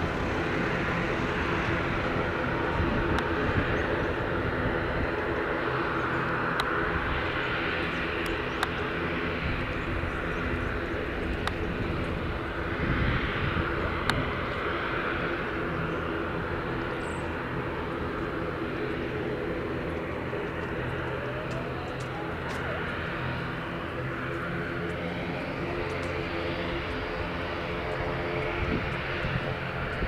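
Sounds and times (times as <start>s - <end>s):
jet engines running at low power: 0.0s - 30.0s.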